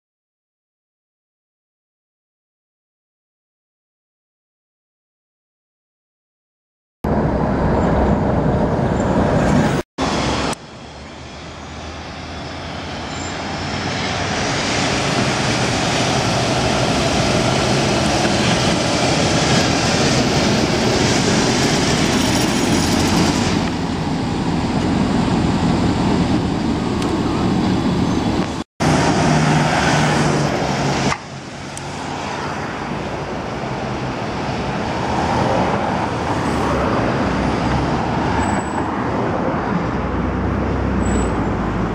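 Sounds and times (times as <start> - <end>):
passing cars: 7.1 - 41.9
tram rolling rumble and hiss: 7.1 - 41.9.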